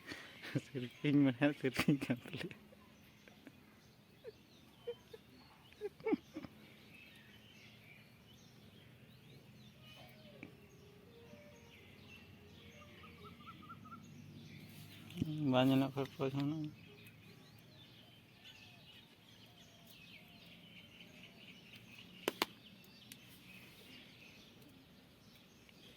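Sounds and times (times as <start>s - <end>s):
faint bird chirps: 0.0s - 25.9s.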